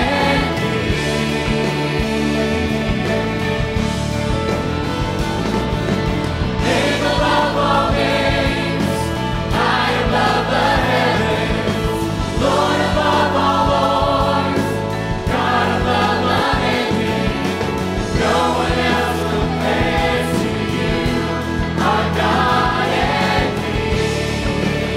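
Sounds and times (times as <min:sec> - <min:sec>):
choir singing: 0:00.0 - 0:04.8, 0:06.4 - 0:24.9
live band playing: 0:00.0 - 0:24.9.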